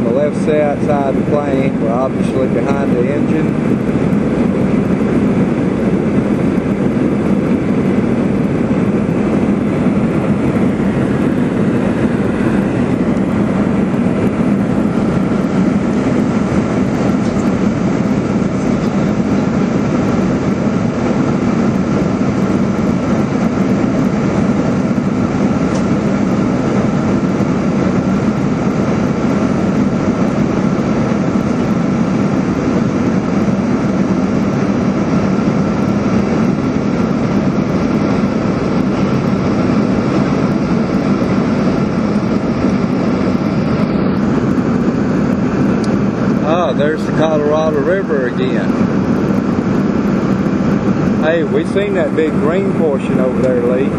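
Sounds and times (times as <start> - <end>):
airliner cabin drone: 0.0 - 53.9.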